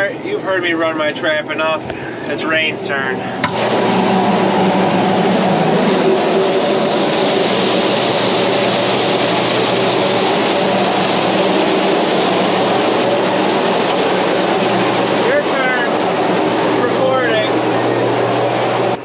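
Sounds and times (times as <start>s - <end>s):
tractor engine running: 3.4s - 19.0s.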